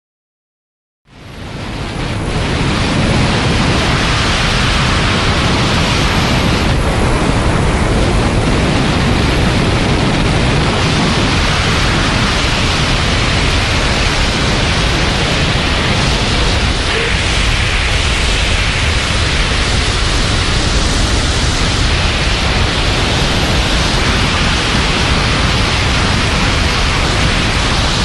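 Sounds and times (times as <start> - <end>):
loud rush of air: 1.1 - 28.0.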